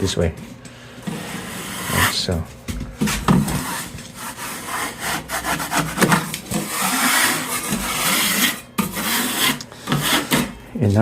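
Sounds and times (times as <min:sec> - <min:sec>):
putty knife scraping compound: 0:01.0 - 0:02.4, 0:03.0 - 0:10.6.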